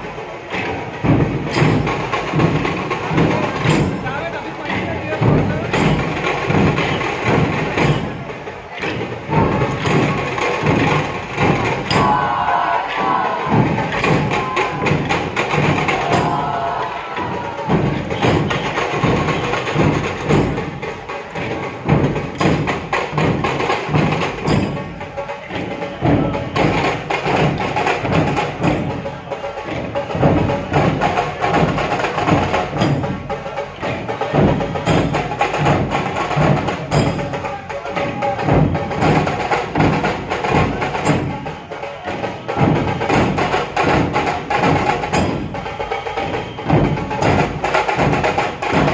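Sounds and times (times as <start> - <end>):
percussion music with fast drums: 0.0 - 48.9.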